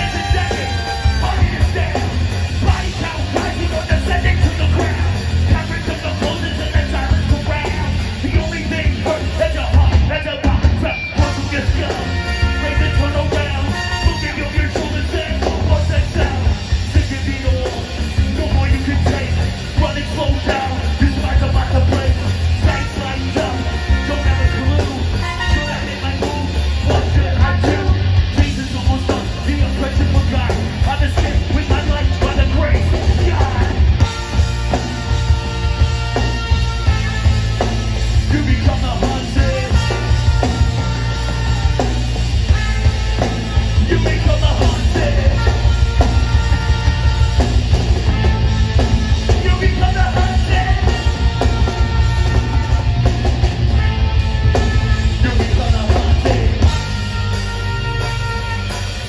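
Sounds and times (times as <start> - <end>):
singer on microphone: 0.0 - 58.7
bass guitar: 0.0 - 59.0
drums: 0.0 - 59.0
electric guitar: 0.0 - 59.0
horn section: 0.0 - 59.0.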